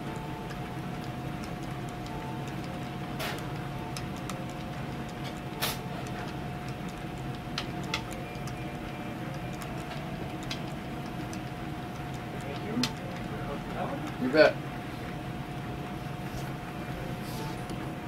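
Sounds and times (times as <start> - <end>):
thin constant hum: 0.0 - 18.0.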